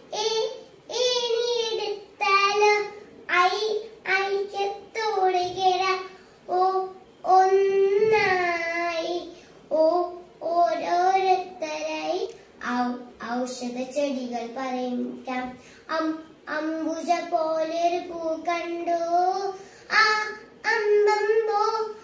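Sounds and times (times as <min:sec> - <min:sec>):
girl singing unaccompanied: 0:00.0 - 0:22.0.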